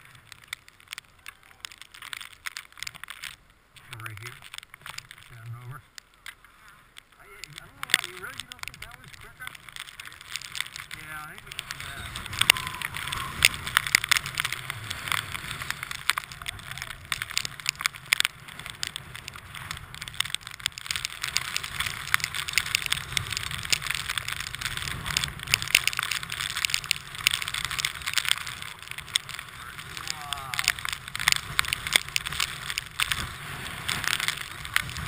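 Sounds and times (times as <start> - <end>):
crackling and clicking: 0.0 - 35.0.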